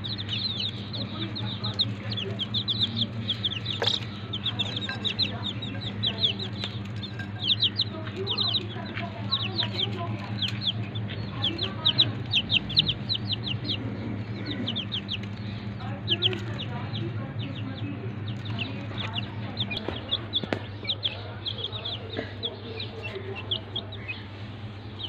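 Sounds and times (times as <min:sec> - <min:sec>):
chicks peeping: 0:00.0 - 0:25.0
steady low hum: 0:00.0 - 0:25.0.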